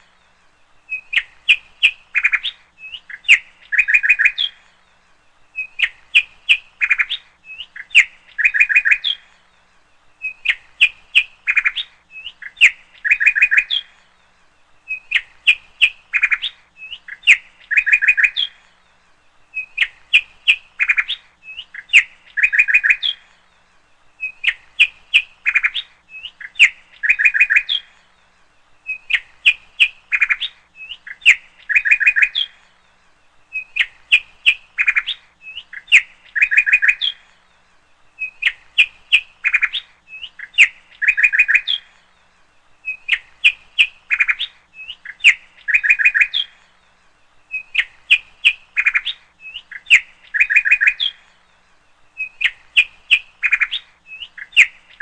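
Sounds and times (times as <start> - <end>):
small bird chirping: 0.0 - 55.0.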